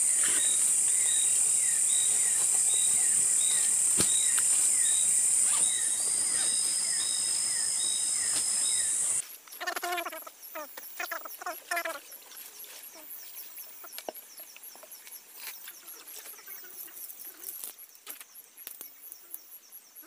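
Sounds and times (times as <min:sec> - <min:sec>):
insects buzzing high-pitched: 0:00.0 - 0:20.0.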